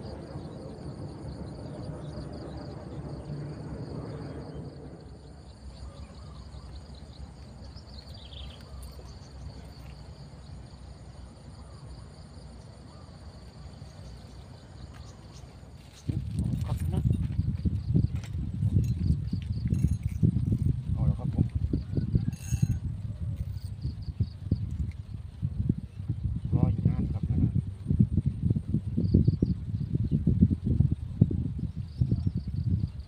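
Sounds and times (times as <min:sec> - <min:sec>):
insects trilling: 0:00.0 - 0:30.2
low rumble: 0:00.0 - 0:33.0.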